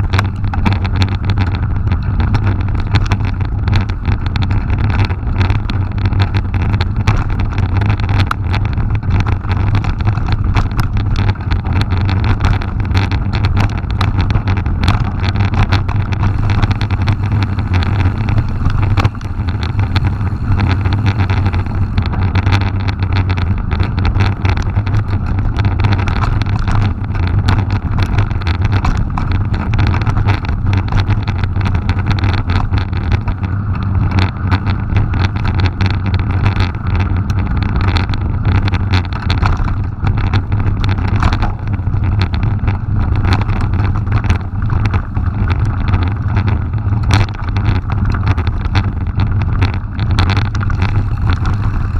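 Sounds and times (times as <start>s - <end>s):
stones and bike rattling: 0.0s - 51.9s
tyres rumbling on gravel: 0.0s - 51.9s
wind rushing on microphone: 0.0s - 51.9s.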